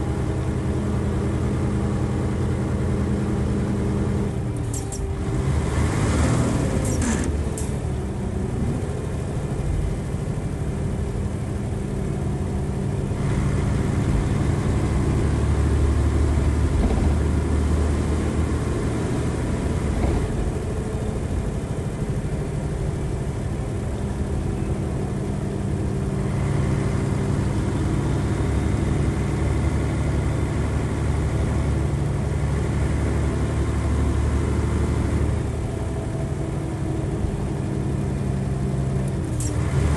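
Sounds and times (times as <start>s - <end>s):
diesel bus engine running: 0.0s - 39.9s.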